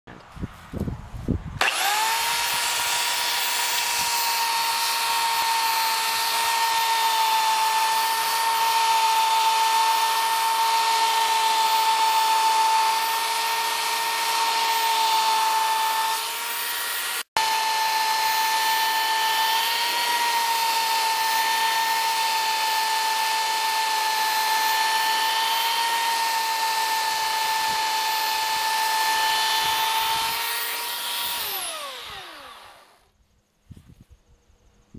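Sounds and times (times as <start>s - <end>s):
electric belt sander whining: 1.6s - 33.2s.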